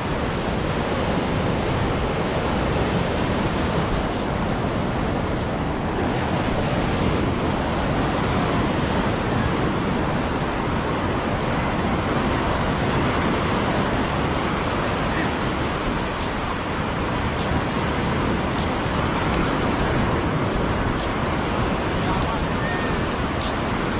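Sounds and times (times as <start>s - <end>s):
waves breaking on beach: 0.0s - 23.9s.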